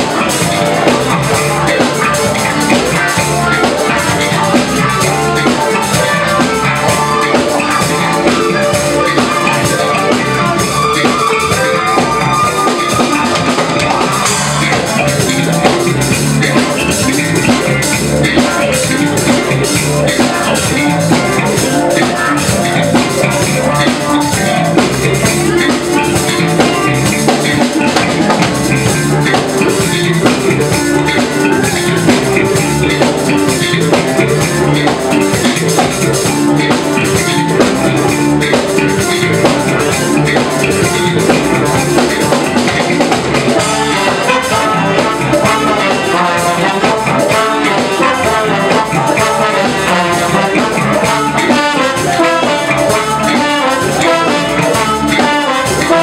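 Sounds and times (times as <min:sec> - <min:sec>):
live band with horn section: 0:00.0 - 0:56.0.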